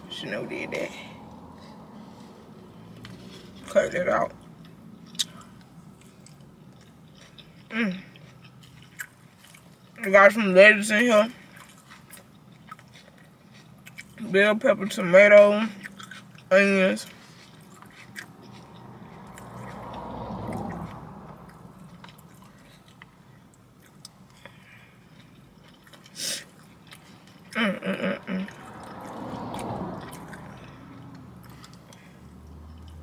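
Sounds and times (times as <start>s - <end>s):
chewing salad: 1.3s - 10.2s, 10.9s - 33.0s.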